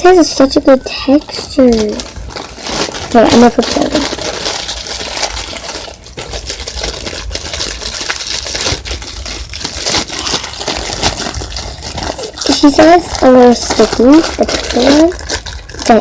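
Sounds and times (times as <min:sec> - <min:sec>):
slime squished by hand: 0:01.1 - 0:16.0.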